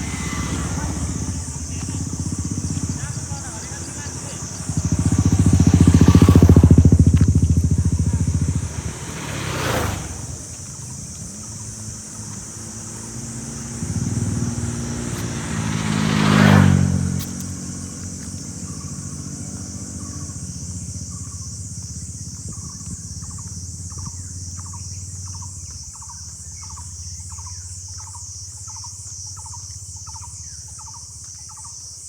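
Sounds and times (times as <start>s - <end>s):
vehicles passing on road: 0.0s - 30.4s.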